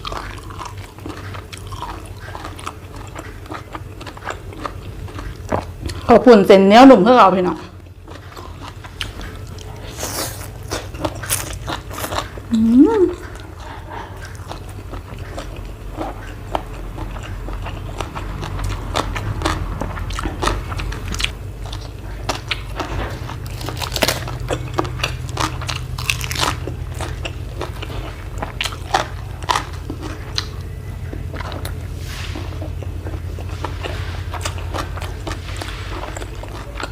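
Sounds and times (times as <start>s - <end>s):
chewing crunchy food: 0.0s - 36.9s.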